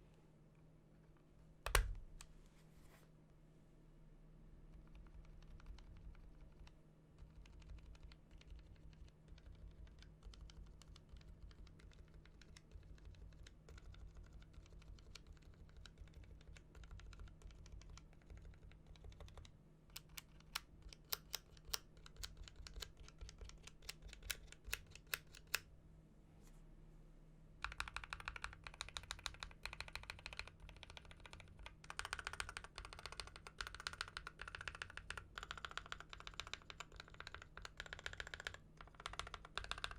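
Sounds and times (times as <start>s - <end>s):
typing on mechanical keyboard: 4.7s - 25.6s, 27.6s - 39.9s.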